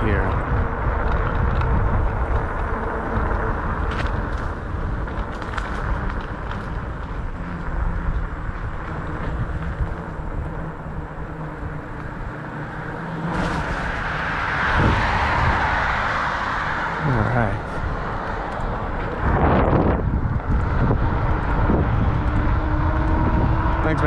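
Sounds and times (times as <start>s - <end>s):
road noise: 0.0s - 24.0s
traffic noise: 0.0s - 24.0s
wind buffeting microphone: 0.0s - 24.0s.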